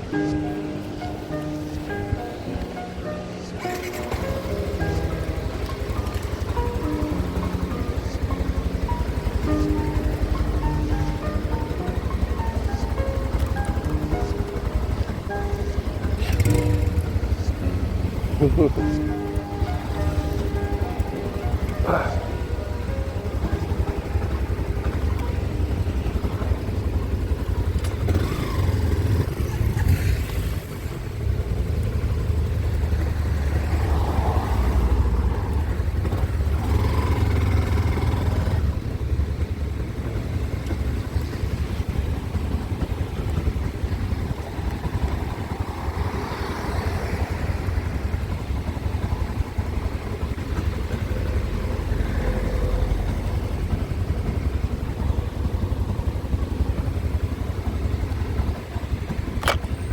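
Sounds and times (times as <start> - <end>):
motorcycle engine rumbling: 0.0 - 59.9.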